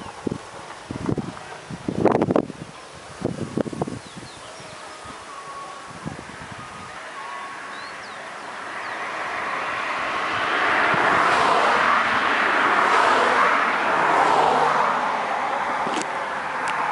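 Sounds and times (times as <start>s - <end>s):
wind rustling bamboo leaves: 0.0s - 16.9s.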